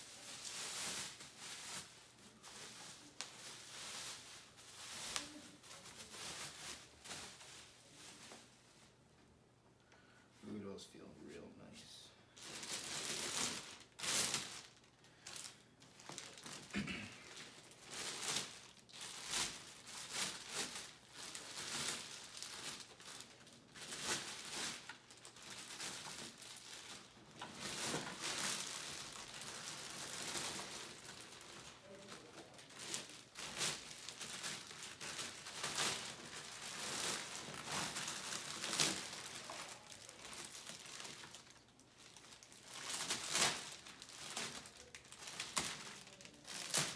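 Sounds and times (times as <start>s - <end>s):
plastic packaging crinkling: 0.0s - 8.5s, 12.3s - 46.9s.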